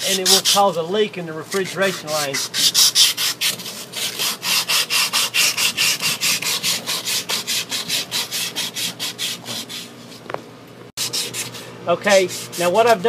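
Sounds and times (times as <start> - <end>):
sandpaper rasping on metal: 0.0 - 10.2, 11.0 - 13.0.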